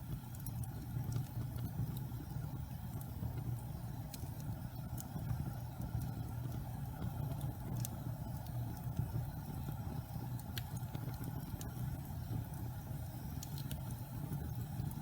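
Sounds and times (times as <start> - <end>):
log fire rumbling: 0.0 - 15.0
wood crackling and popping: 0.1 - 15.0.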